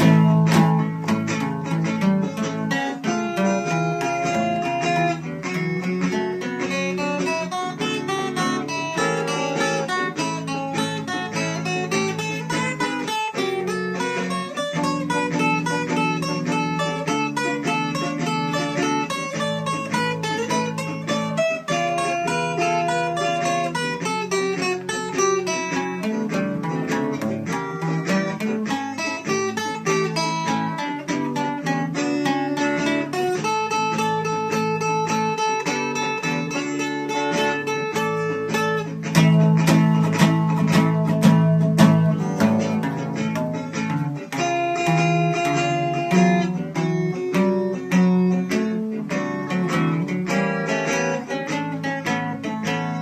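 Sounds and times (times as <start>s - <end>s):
acoustic guitar playing: 0.0s - 53.0s.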